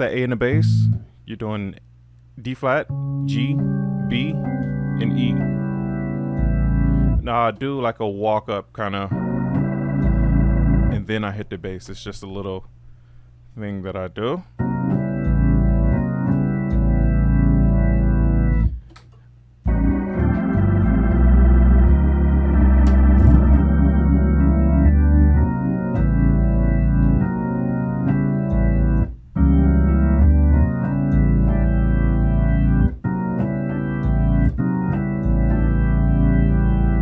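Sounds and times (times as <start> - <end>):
organ bass pedal notes: 0.0 - 12.7, 13.6 - 37.0
organ chords: 0.0 - 37.0.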